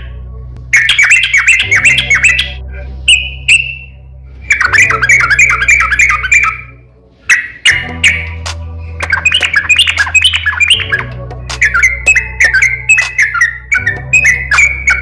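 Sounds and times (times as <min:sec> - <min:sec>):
steady low hum: 0:00.0 - 0:00.9, 0:01.5 - 0:15.0
songbird singing: 0:00.0 - 0:15.0.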